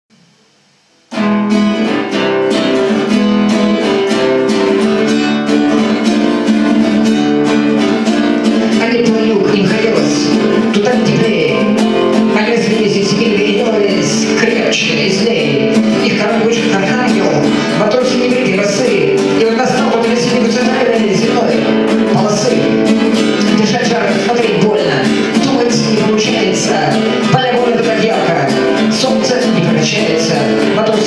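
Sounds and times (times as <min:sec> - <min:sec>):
acoustic guitar strumming chords: 0:00.2 - 0:31.0.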